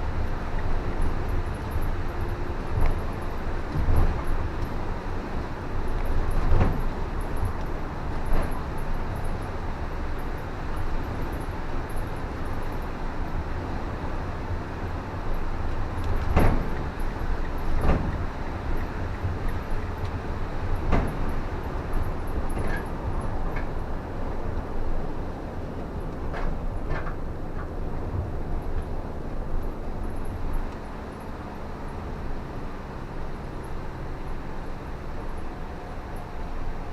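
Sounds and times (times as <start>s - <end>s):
car road and engine rumble: 0.0s - 36.9s.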